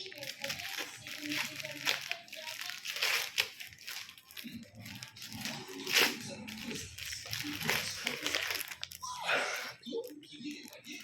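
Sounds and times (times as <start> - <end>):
gift wrapping tearing and crumpling: 0.0 - 11.0.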